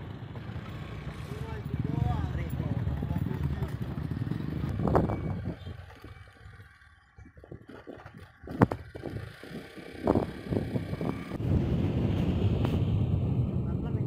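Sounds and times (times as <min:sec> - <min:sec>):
motorcycle engine and wind rumble: 0:00.0 - 0:14.0.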